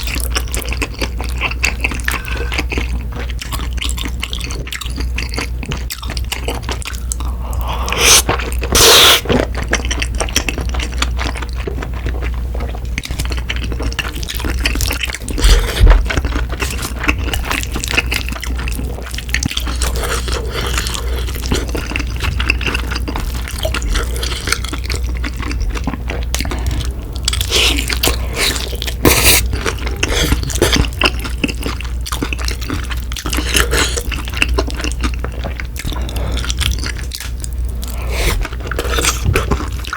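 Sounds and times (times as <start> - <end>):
crunching of fried food: 0.0 - 39.9
wet chewing and smacking: 0.0 - 39.9.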